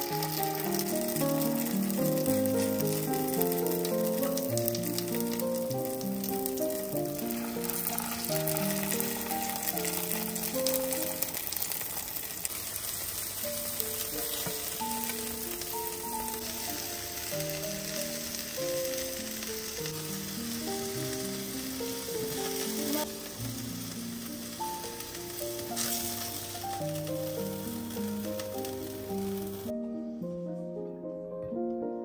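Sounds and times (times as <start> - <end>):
background music melody: 0.0 - 11.7, 13.0 - 32.0
patties sizzling in a pan: 0.0 - 29.7.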